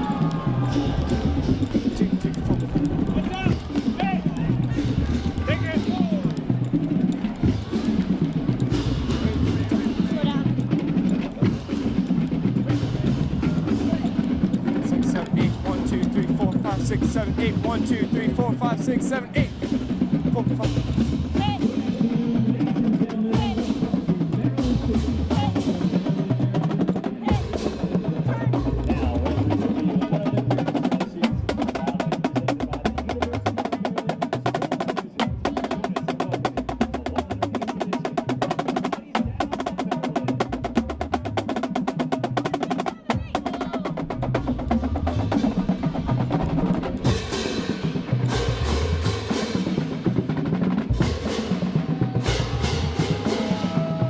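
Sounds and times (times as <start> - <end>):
snare drum patterns: 0.0 - 54.0
tenor drums: 0.0 - 54.0.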